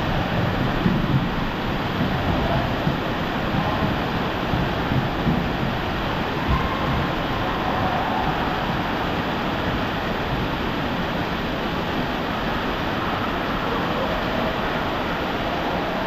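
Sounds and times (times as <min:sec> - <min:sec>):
water rushing down a slide: 0:00.0 - 0:16.0.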